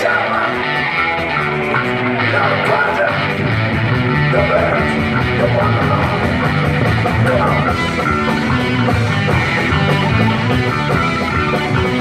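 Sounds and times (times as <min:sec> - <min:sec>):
drum kit: 0:00.0 - 0:12.0
electric guitars: 0:00.0 - 0:12.0.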